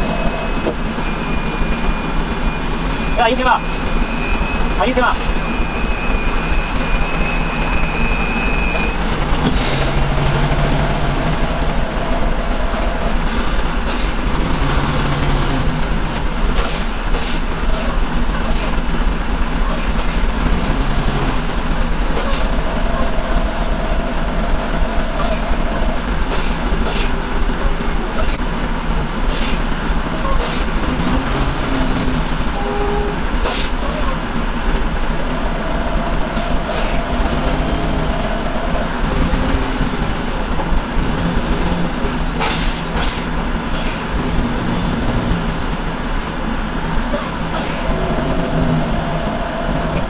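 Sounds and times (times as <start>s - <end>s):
truck engine rumbling: 0.0s - 50.0s.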